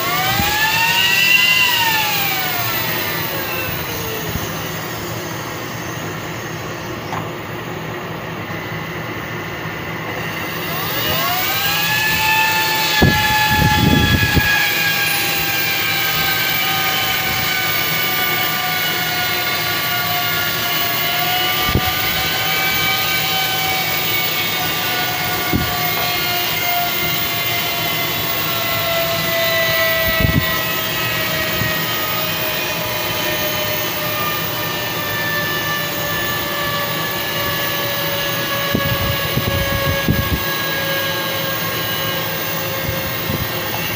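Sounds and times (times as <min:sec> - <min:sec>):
small fan whining: 0:00.0 - 0:43.9.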